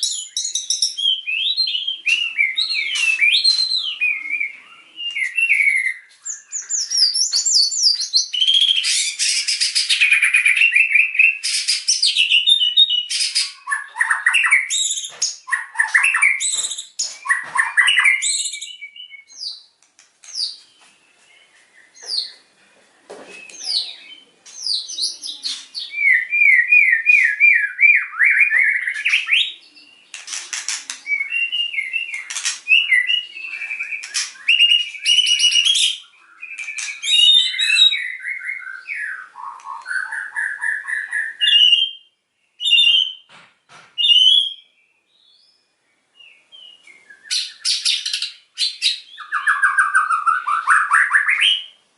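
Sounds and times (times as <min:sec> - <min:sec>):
songbird whistling song: 0:00.0 - 0:22.5, 0:23.2 - 0:51.8.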